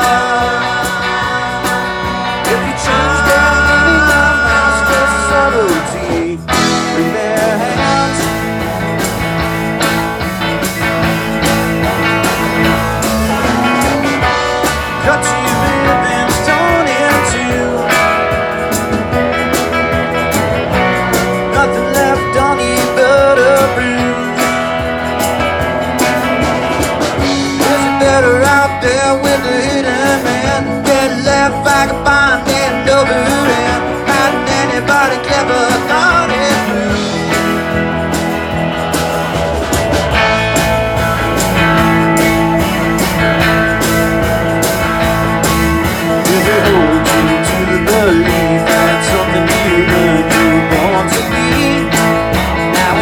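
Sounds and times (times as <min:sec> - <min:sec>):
live blues-rock band: 0:00.0 - 0:53.0
wavering lead melody: 0:00.0 - 0:53.0.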